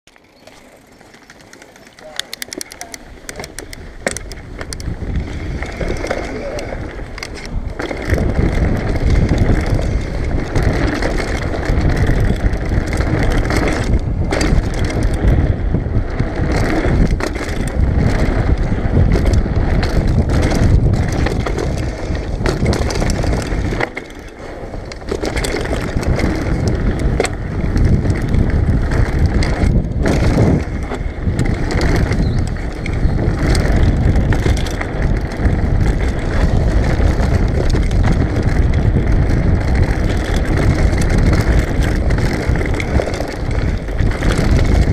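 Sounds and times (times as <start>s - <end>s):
bike tyre noise on dirt: 0.0s - 44.9s
bike clattering over bumps: 0.1s - 44.9s
wind buffeting microphone: 0.4s - 44.9s.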